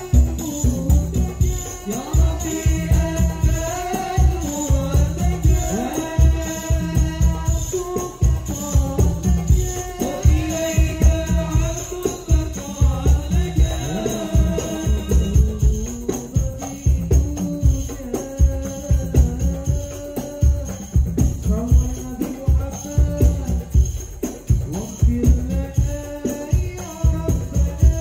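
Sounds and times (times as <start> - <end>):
frame drums beating: 0.0 - 28.0
men singing into microphones: 0.0 - 28.0.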